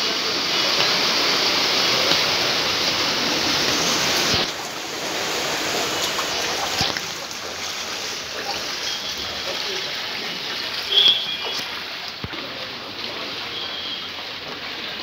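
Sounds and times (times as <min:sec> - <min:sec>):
floodwater rushing and splashing: 0:00.0 - 0:15.0
water running past a wheel: 0:00.0 - 0:15.0.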